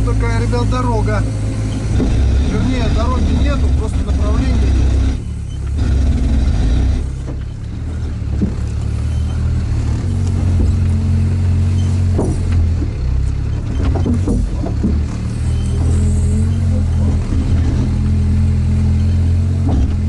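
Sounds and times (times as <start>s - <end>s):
vehicle engine droning: 0.0s - 20.0s
vehicle knocks and clanks: 0.0s - 20.0s.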